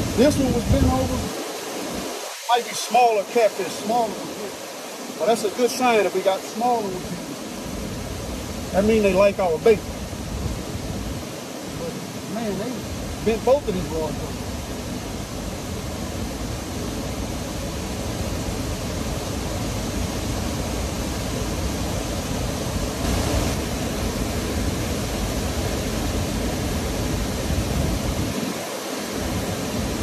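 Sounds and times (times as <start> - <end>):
wind on microphone: 0.0 - 2.4, 3.6 - 30.0.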